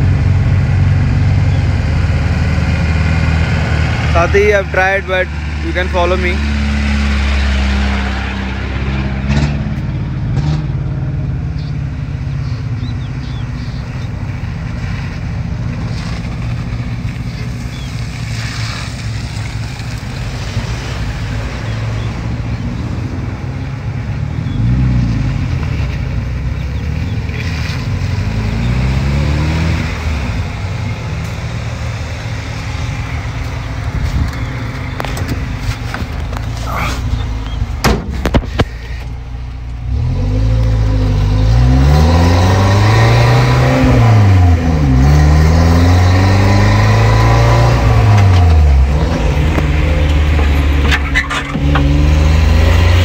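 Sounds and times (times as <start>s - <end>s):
off-road vehicle engine: 0.0s - 53.0s
tyre and road noise: 0.0s - 53.0s.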